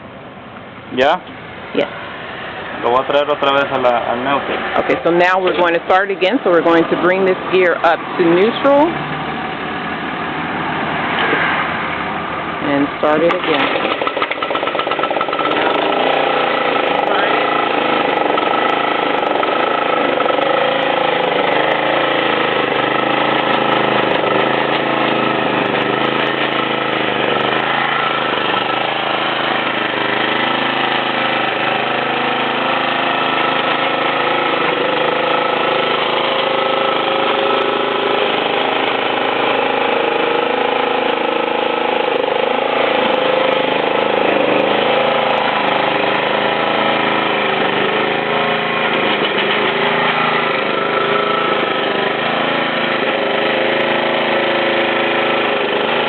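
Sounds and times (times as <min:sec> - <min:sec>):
lawnmower engine running: 0:00.0 - 0:56.0.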